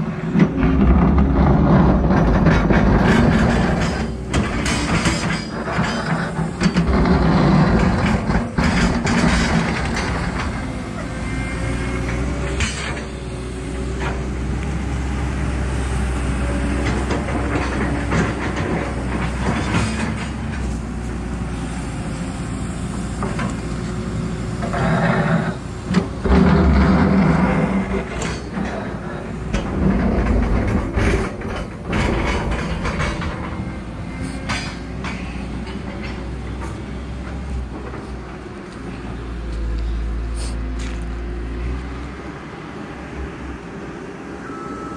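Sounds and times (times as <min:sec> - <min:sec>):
backhoe engine running: 0:00.0 - 0:44.9.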